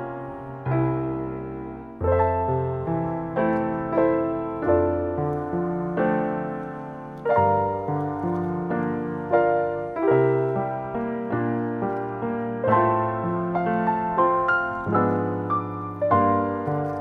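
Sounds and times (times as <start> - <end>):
solo piano playing: 0.0 - 17.0.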